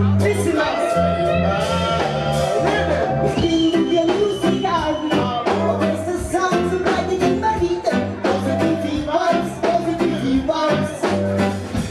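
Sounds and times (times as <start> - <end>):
person singing: 0.0 - 11.5
reggae band playing: 0.0 - 11.9.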